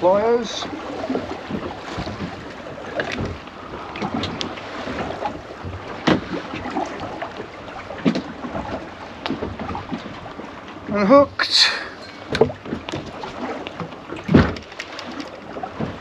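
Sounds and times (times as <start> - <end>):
wind and water noise: 0.0 - 16.0.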